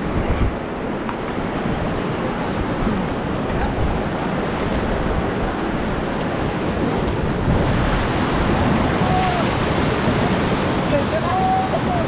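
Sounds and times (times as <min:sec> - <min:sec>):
rushing white-water rapids: 0:00.0 - 0:12.0
wind buffeting microphone: 0:00.0 - 0:12.0.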